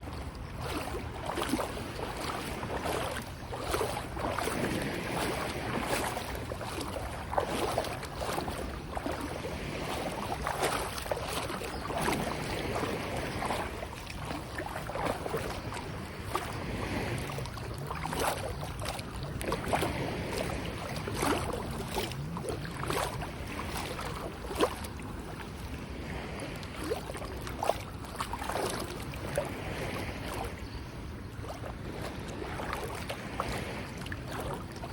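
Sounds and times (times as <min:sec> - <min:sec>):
sea water lapping and splashing: 0:00.0 - 0:34.9.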